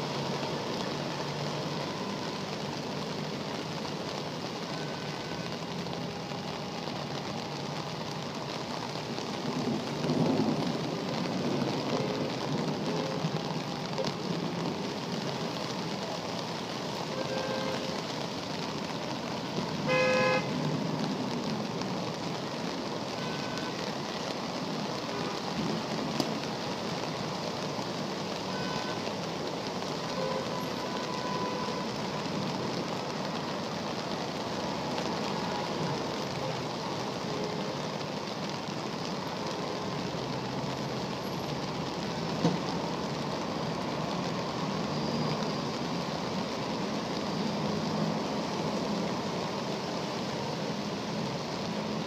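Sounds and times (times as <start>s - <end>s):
rain hissing: 0.0s - 52.0s
rushing floodwater: 0.0s - 52.0s.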